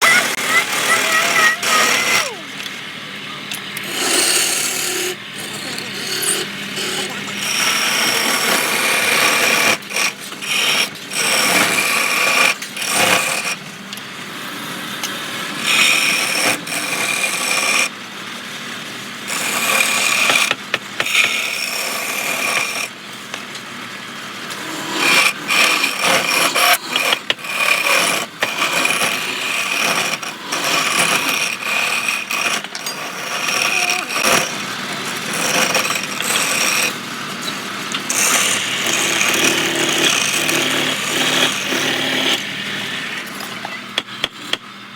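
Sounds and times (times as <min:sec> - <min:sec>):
turning tool scraping wood: 0:00.0 - 0:02.5, 0:03.8 - 0:13.6, 0:15.5 - 0:17.9, 0:19.3 - 0:23.0, 0:24.4 - 0:44.6
wood lathe running: 0:00.0 - 0:13.6, 0:14.3 - 0:18.0, 0:19.2 - 0:23.4, 0:24.3 - 0:44.6.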